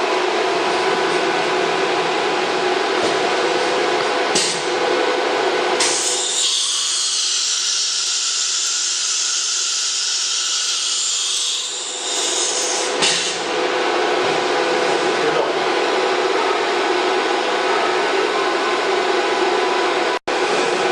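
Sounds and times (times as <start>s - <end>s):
steady machine hum: 0.0s - 20.9s.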